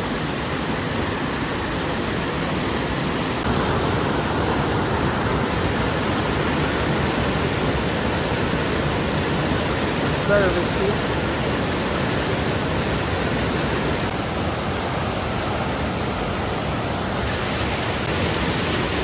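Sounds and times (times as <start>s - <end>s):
river rapids rushing over boulders: 0.0s - 19.0s.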